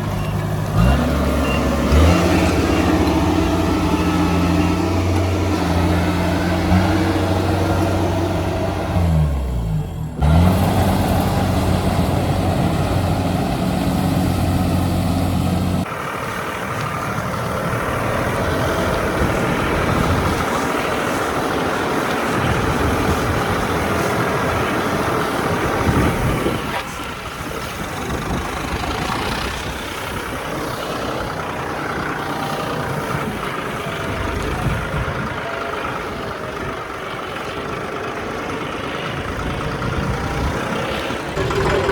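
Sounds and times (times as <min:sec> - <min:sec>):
heavy diesel engine running: 0:00.0 - 0:41.9
noisy engine sound: 0:00.0 - 0:41.9.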